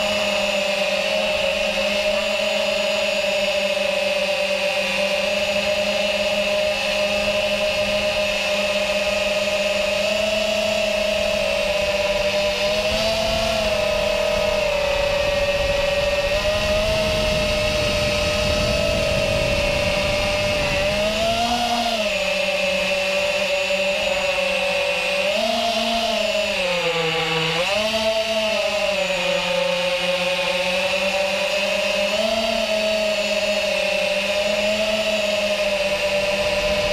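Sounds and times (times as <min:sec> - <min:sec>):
drone motors buzzing whine: 0:00.0 - 0:36.9.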